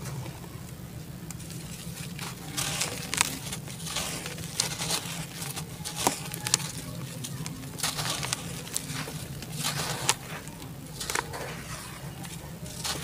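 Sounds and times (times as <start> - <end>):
dry dirt crumbling by hand: 0.0 - 13.0
wet handling: 0.0 - 13.0
dirt pattering into water: 1.0 - 13.0.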